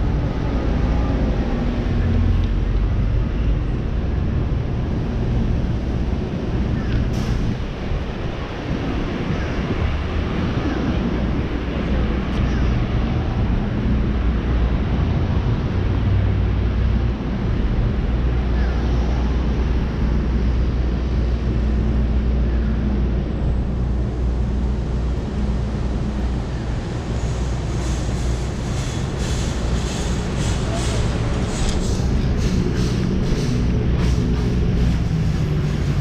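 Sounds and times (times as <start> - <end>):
low rumble of traffic: 0.0 - 36.0.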